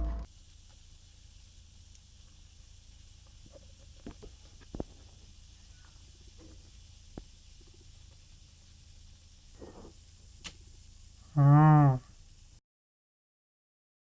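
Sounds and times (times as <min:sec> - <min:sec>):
steady hiss: 0:00.0 - 0:12.6.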